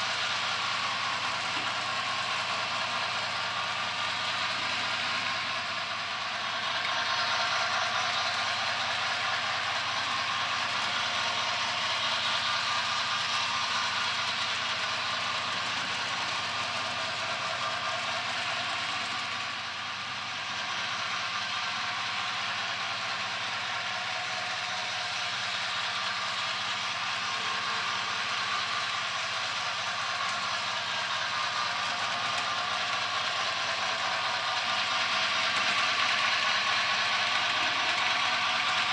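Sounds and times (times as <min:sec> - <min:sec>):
model train mechanical hum: 0:00.0 - 0:38.9
small wheels clattering on track: 0:00.0 - 0:38.9.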